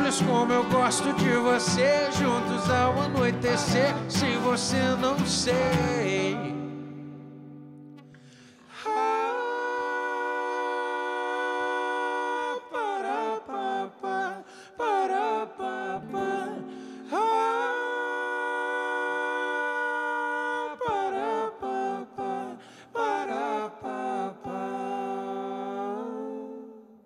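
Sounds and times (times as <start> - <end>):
men singing wordless vocals: 0.0 - 6.9, 8.7 - 27.0
acoustic guitars: 0.0 - 26.4.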